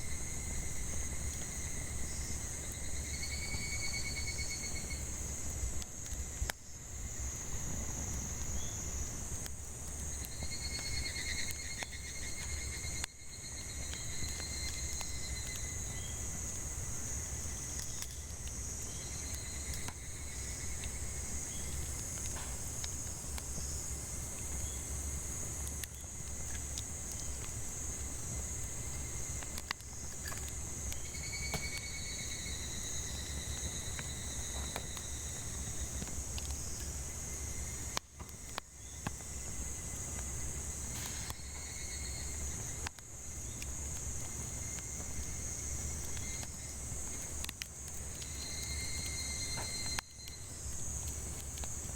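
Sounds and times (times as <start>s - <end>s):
cicadas shrilling: 0.0s - 9.3s, 9.9s - 51.9s
firewood crackling and popping: 0.0s - 51.9s.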